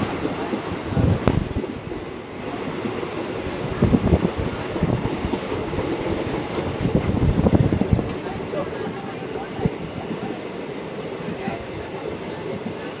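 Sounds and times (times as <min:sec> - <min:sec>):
train rumbling on track: 0:00.0 - 0:13.0
wheels clattering on rails: 0:00.0 - 0:13.0.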